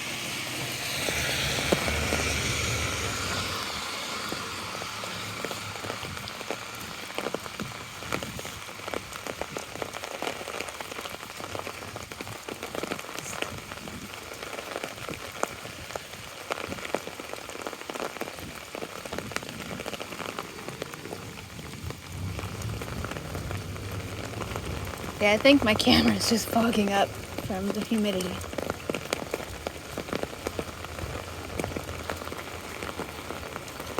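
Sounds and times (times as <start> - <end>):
rain on an umbrella: 0.0 - 33.9.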